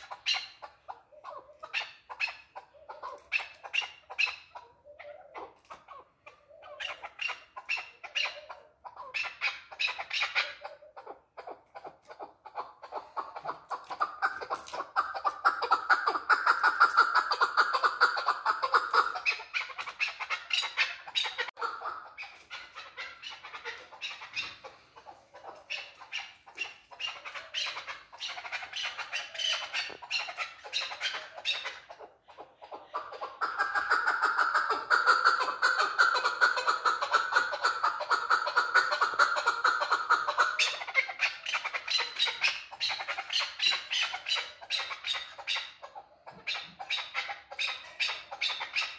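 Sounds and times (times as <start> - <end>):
partridge calling: 0.0 - 48.9.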